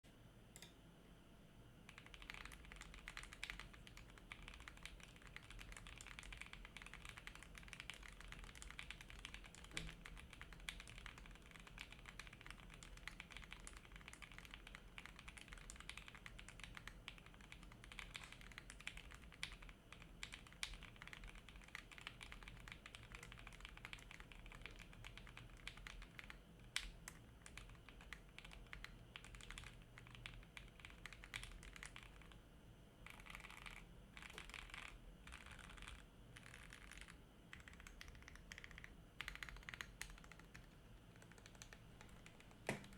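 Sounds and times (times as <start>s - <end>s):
fast typing on mechanical keyboard: 1.9s - 32.4s, 33.0s - 42.9s.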